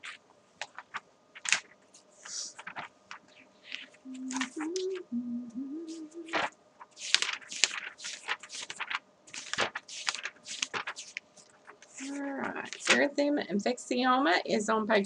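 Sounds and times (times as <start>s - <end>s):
book pages flipping: 0.0s - 5.0s, 5.8s - 13.1s.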